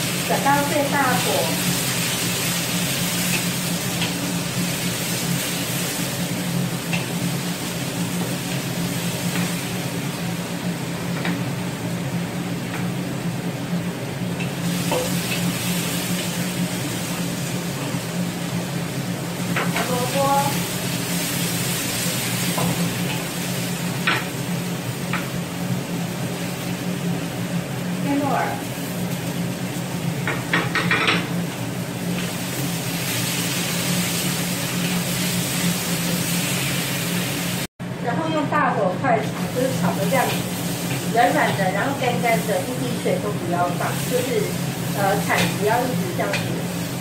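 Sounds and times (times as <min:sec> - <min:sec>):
mushrooms sizzling in a wok: 0:00.0 - 0:47.0.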